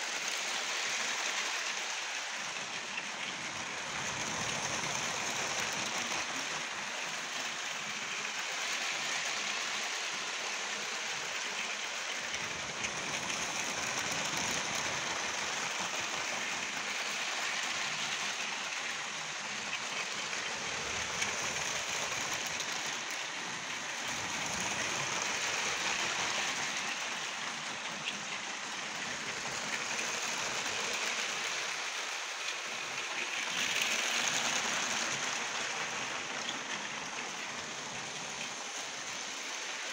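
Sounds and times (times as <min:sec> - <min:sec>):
toy trains rattling on track: 0:00.0 - 0:39.9.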